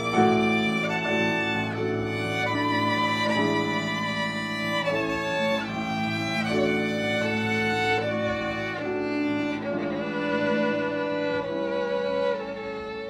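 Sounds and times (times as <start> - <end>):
piano accompaniment: 0.0 - 13.0
solo violin melody: 0.0 - 13.0.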